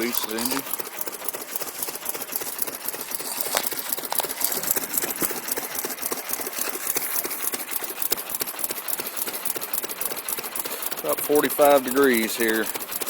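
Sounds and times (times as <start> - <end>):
small gasoline engine clattering: 0.0 - 13.0.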